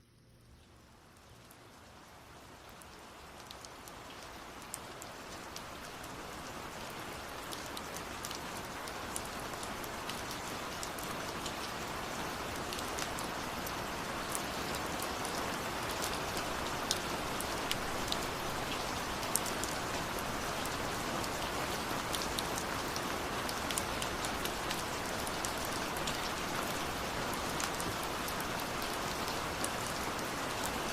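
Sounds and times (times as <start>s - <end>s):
raindrops ticking on a surface: 0.0s - 30.9s
steady rain hiss: 0.0s - 30.9s.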